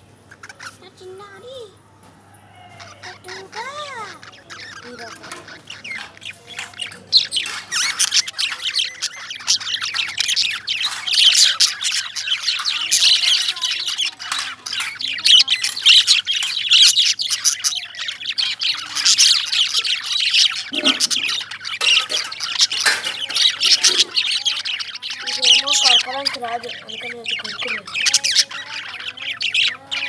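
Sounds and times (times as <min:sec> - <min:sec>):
lovebirds chirping and squawking: 0:00.0 - 0:30.0.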